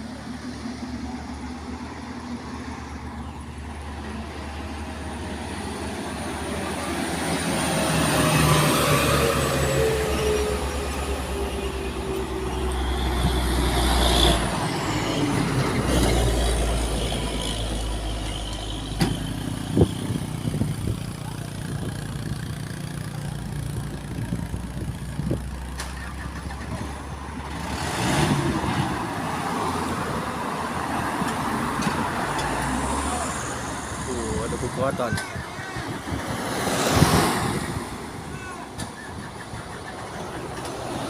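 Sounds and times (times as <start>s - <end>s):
diesel truck engines running: 0.0s - 41.0s.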